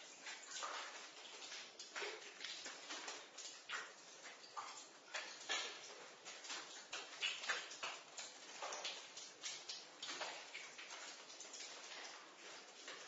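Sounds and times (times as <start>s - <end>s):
water dripping: 0.0s - 13.0s.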